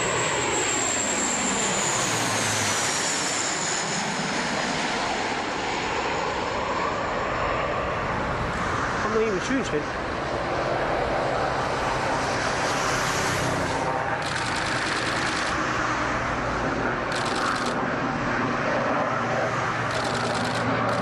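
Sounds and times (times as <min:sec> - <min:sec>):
aircraft engine rushing: 0:00.0 - 0:21.0.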